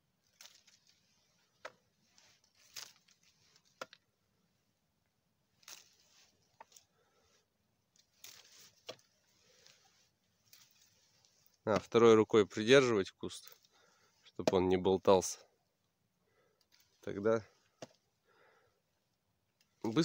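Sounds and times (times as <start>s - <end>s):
branches and dry leaves rustling: 0.0s - 20.0s.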